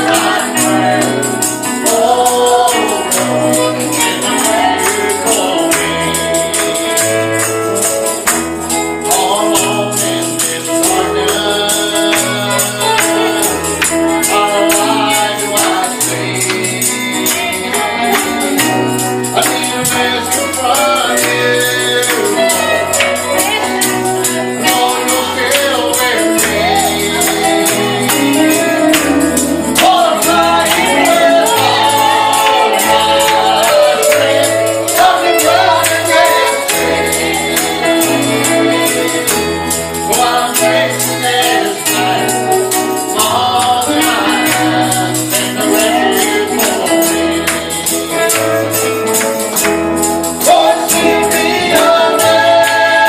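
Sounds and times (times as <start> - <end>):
tambourine shaken in rhythm: 0.0 - 53.0
voices singing gospel: 0.0 - 53.0.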